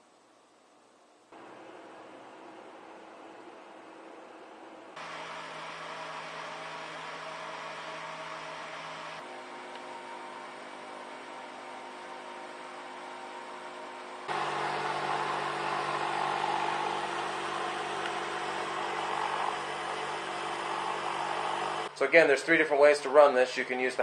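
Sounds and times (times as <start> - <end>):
small fan whirring: 0.1 - 22.0.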